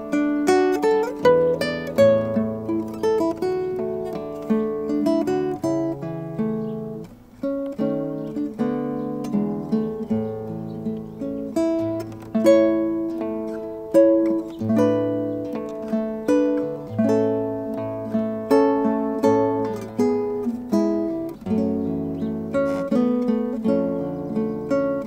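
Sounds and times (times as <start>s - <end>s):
fingerstyle classical guitar: 0.0s - 25.0s.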